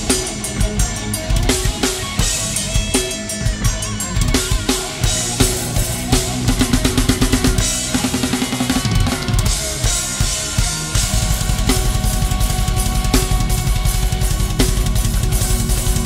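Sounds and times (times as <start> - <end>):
drum fills with cymbals: 0.0 - 16.0
rapid bass drum beats: 0.0 - 16.0.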